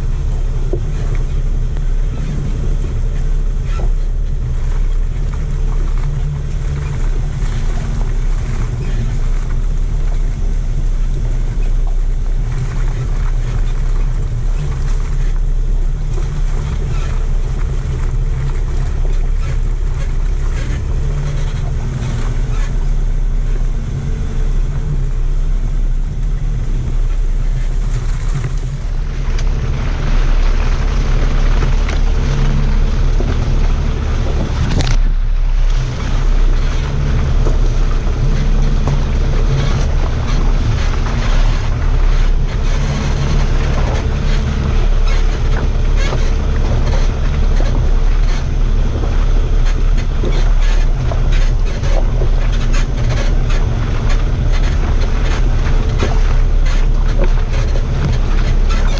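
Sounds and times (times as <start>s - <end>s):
vehicle engine running: 0.0s - 58.9s
wind noise on microphone: 0.0s - 58.9s.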